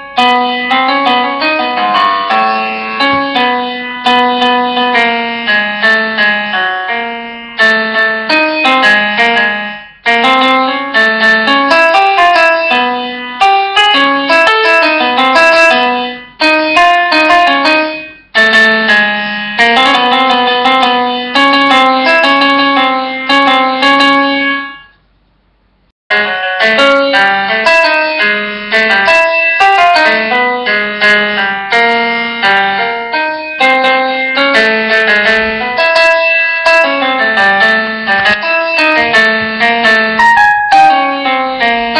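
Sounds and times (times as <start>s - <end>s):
keyboard melody: 0.0s - 25.0s, 26.1s - 41.9s.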